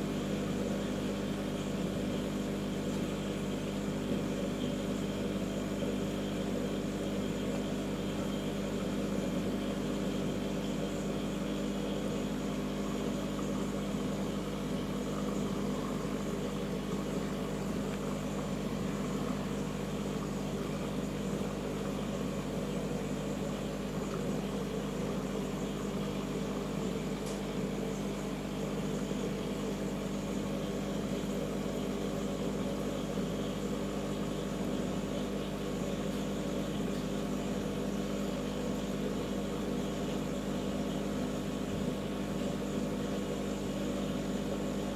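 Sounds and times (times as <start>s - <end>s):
aquarium pumps humming: 0.0s - 44.9s.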